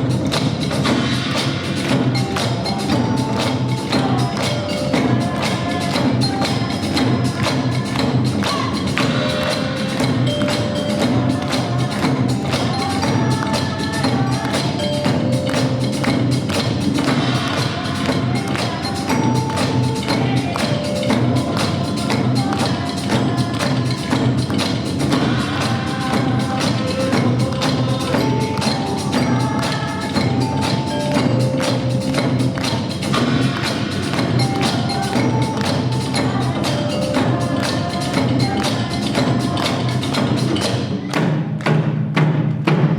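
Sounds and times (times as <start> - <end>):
backing music with repeating melody: 0.0 - 41.1
drums and sticks struck: 0.0 - 42.9.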